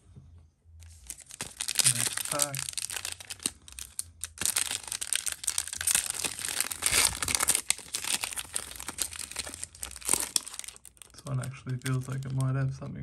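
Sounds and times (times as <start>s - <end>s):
plastic wrappers crinkling and tearing: 0.8s - 13.0s.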